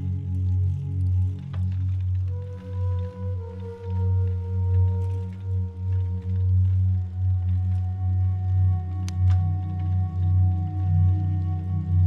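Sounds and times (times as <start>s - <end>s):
music with held tones: 0.0s - 12.0s.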